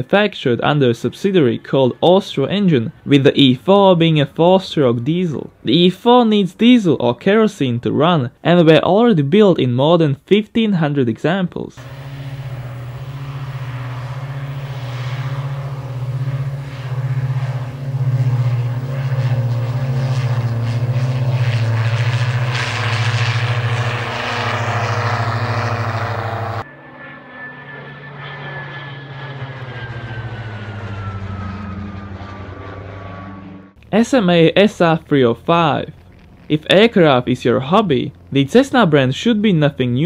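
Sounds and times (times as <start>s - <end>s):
aircraft engines droning at takeoff: 0.0s - 5.9s, 11.8s - 40.0s
propeller aircraft passing overhead: 0.0s - 5.9s, 11.8s - 40.0s.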